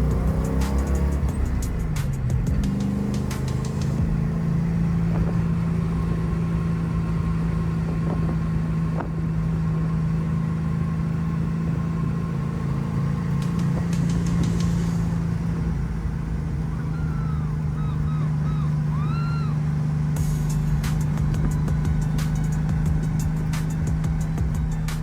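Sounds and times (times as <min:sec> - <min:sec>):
car engine droning steadily: 0:00.0 - 0:25.0.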